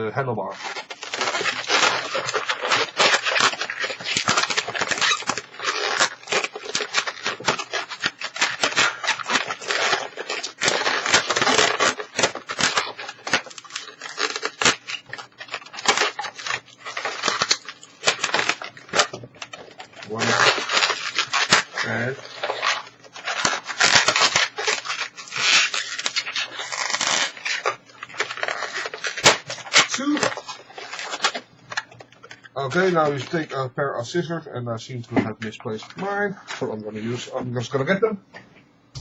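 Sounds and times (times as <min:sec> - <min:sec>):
balloons squeaking and rubbing: 0:00.0 - 0:33.6.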